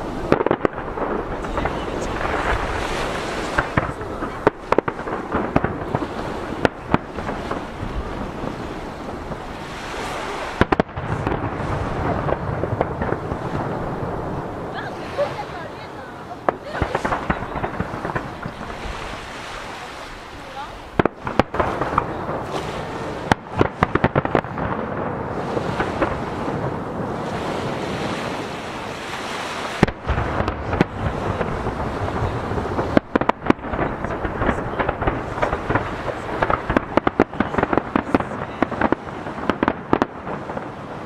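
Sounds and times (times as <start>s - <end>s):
fireworks bangs and crackles: 0.0s - 41.0s
waves breaking: 0.0s - 41.0s
wind on microphone: 0.0s - 41.0s.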